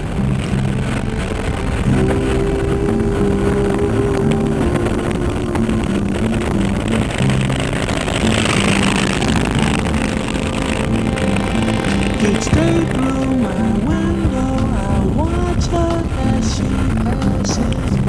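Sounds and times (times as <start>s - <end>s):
motorcycle engine riding: 0.0s - 18.0s
music playing: 0.0s - 18.0s
wind noise: 0.0s - 18.0s.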